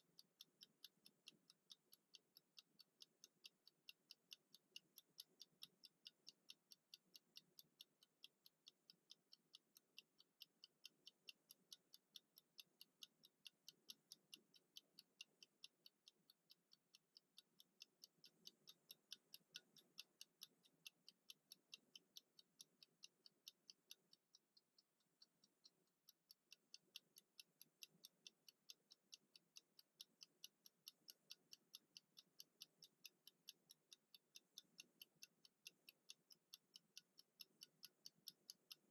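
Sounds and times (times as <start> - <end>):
kitchen timer ticking: 0.0 - 38.9.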